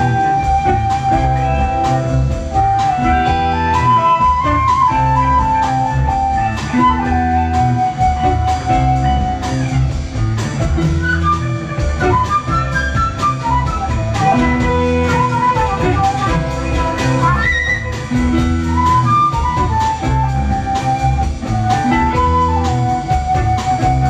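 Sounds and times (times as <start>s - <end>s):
flute melody: 0.0s - 24.0s
rock band playing: 0.0s - 24.0s.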